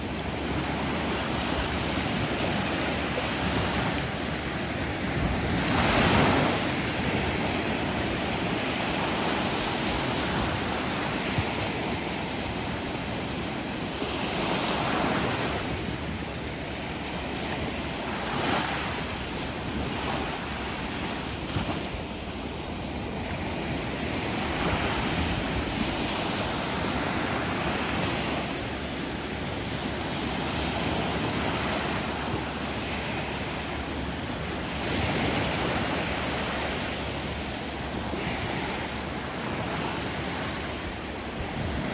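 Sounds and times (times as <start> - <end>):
sea waves on shore: 0.0 - 41.9.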